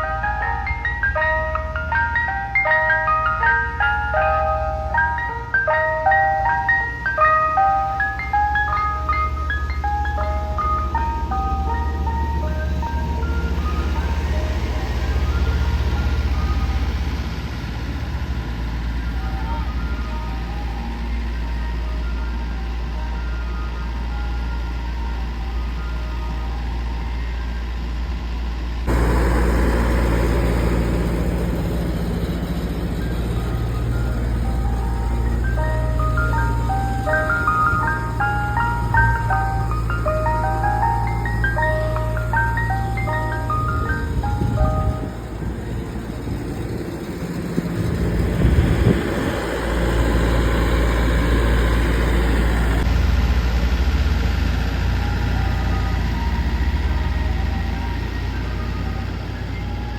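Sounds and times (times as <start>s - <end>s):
ice cream truck chime tune: 0.0s - 17.6s, 18.5s - 28.0s, 28.9s - 52.9s, 54.8s - 59.9s
truck engine idling: 0.0s - 27.2s, 27.8s - 59.9s.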